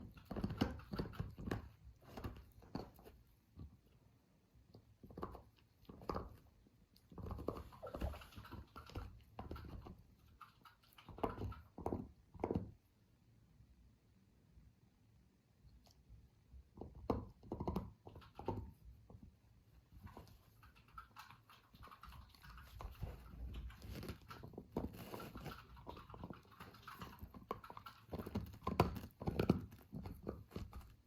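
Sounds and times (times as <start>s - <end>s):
puppy chewing a toy: 0.0s - 4.0s, 4.6s - 12.8s, 15.8s - 31.0s.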